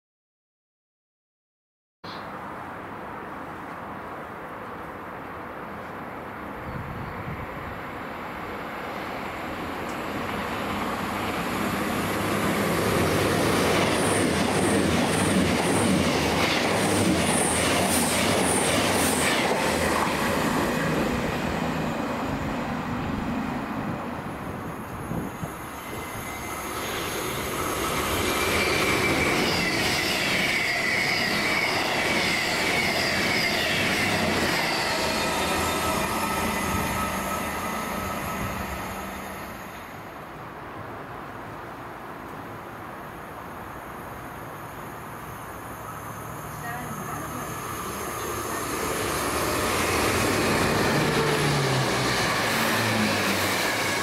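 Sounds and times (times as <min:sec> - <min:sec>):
train rumbling past: 0:02.3 - 0:54.0
train high whine: 0:04.4 - 0:54.0.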